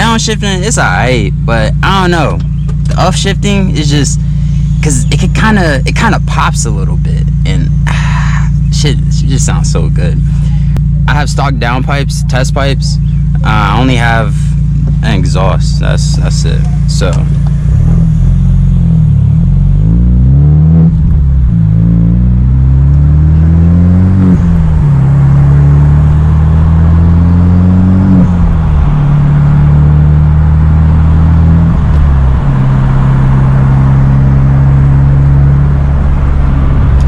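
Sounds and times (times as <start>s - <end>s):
car engine accelerating through gears: 0.0s - 37.0s.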